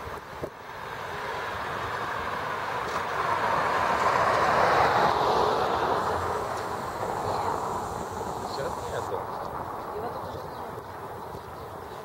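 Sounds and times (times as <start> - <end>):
vehicle passing: 0.7 - 10.8.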